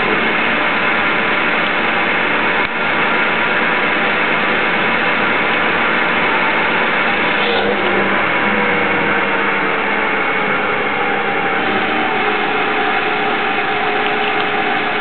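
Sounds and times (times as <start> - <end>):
lathe running: 0.0 - 15.0.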